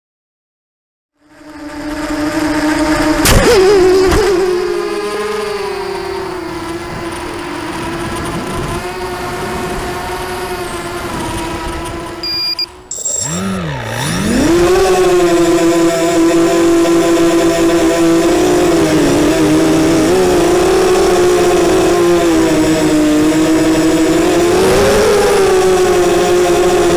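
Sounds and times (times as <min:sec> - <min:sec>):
quadcopter motors whining: 0:01.2 - 0:26.9.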